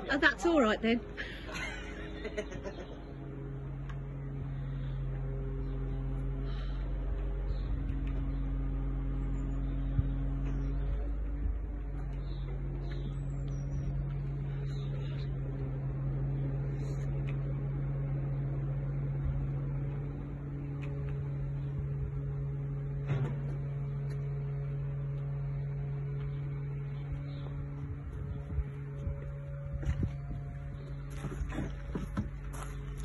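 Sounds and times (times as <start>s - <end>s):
crane engine droning: 0.0s - 33.0s.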